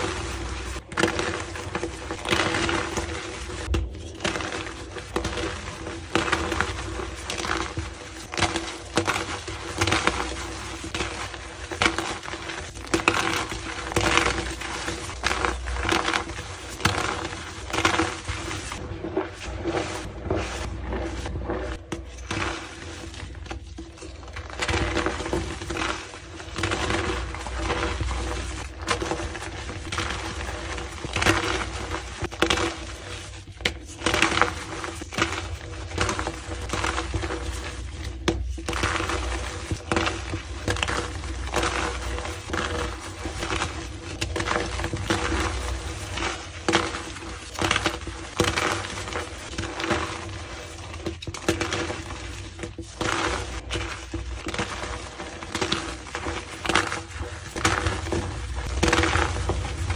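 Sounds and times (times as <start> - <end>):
chalk crunching and crackling: 0.0 - 59.9.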